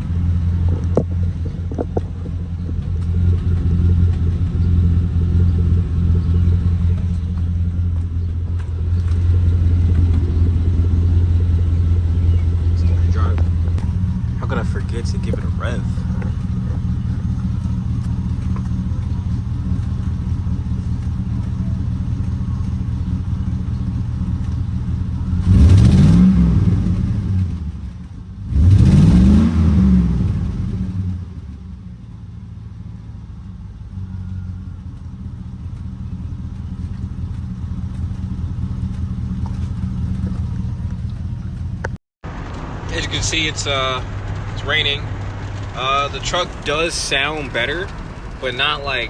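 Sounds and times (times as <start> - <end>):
truck engine running and revving: 0.0 - 49.0.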